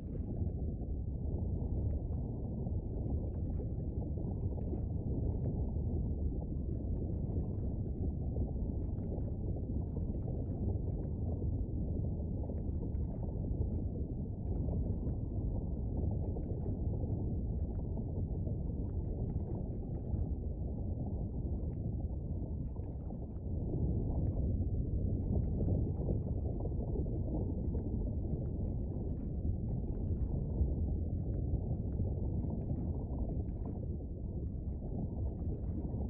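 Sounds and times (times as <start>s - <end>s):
deep volcanic rumble: 0.0s - 36.0s
faint crackles and pops: 0.0s - 36.0s.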